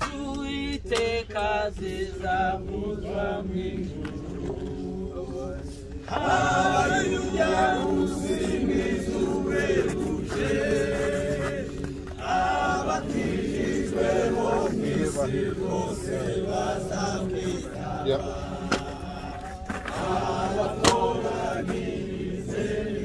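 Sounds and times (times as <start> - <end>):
group singing unaccompanied: 0.0 - 23.0.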